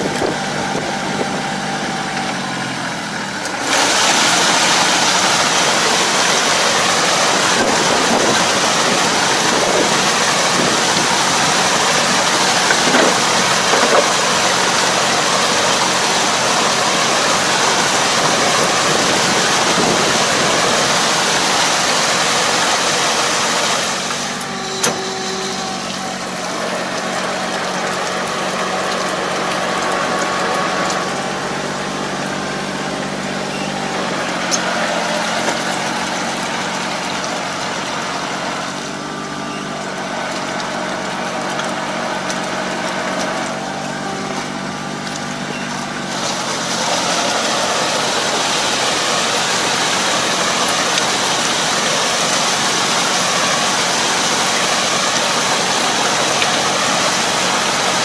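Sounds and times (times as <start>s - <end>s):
harrow churning water and mud: 0.0s - 58.0s
tractor engine running: 0.0s - 58.0s.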